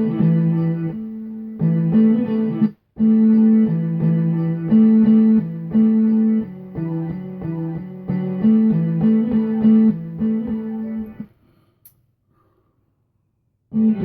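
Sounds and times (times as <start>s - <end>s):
chopped guitar sample music: 0.0s - 11.3s, 13.7s - 14.0s.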